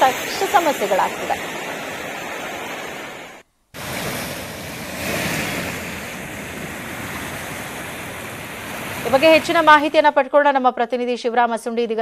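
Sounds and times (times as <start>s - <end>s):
floodwater rushing: 0.0s - 10.1s.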